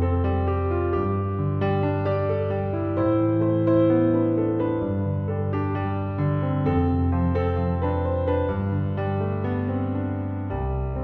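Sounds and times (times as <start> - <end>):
soft slow piano: 0.0 - 11.0.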